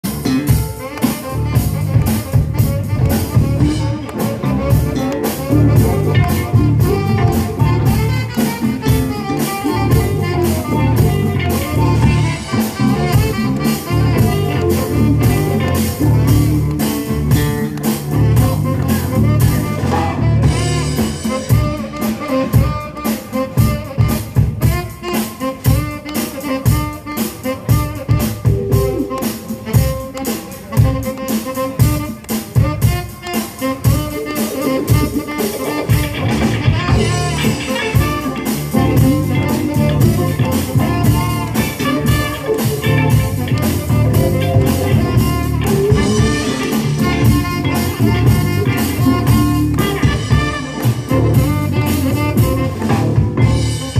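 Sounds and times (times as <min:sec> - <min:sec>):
bass guitar line: 0:00.0 - 0:53.9
drum kit: 0:00.0 - 0:53.9
higher instruments: 0:00.0 - 0:53.9.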